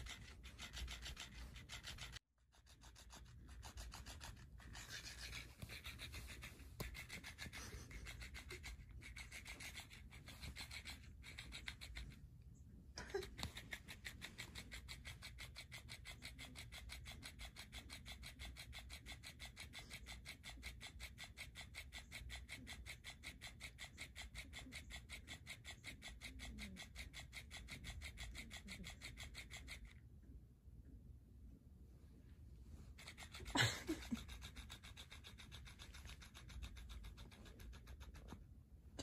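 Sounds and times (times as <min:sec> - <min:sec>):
cat toy motor ticking: 0:00.0 - 0:12.2, 0:13.1 - 0:30.0, 0:32.9 - 0:38.4.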